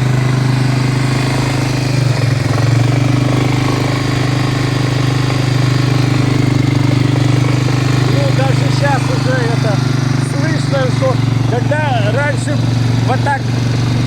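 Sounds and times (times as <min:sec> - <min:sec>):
quad bike engine idling: 0:00.0 - 0:14.0.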